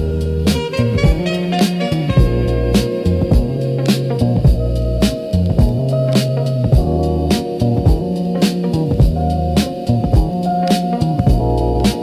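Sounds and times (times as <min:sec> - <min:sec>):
funk music with drums bass guitar: 0:00.0 - 0:12.0.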